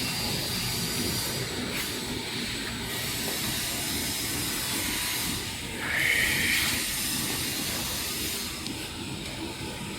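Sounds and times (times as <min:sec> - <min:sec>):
machine rumble and hiss: 0:00.0 - 0:09.9.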